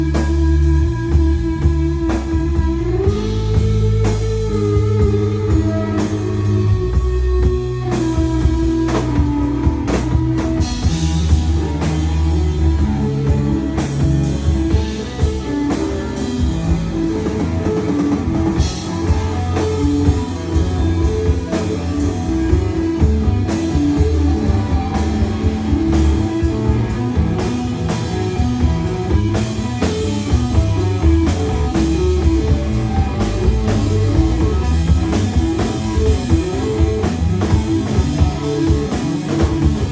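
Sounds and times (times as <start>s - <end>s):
drum kit: 0.0s - 39.9s
electric guitar lead: 0.0s - 39.9s
steady bass line: 0.0s - 39.9s.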